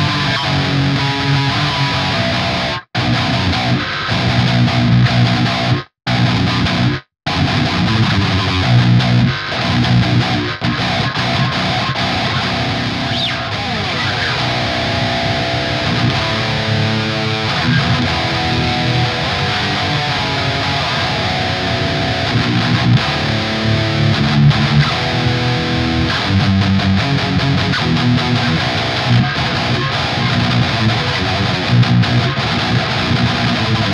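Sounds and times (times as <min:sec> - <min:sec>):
distorted electric guitar riffs: 0:00.0 - 0:33.9.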